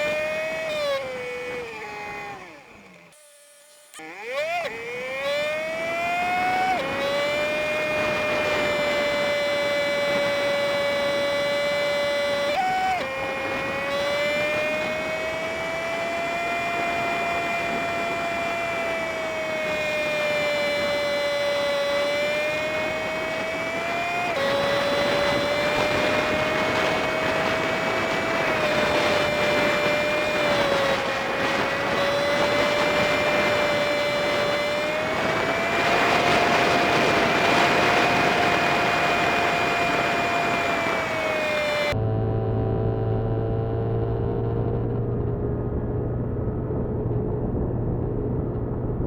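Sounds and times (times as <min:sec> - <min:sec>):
sped-up motorbike engine whine: 0:00.0 - 0:49.0.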